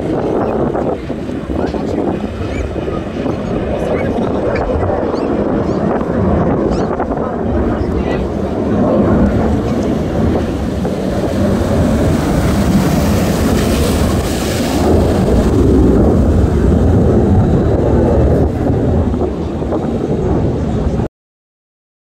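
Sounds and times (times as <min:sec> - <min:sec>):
wind buffeting microphone: 0:00.0 - 0:21.1.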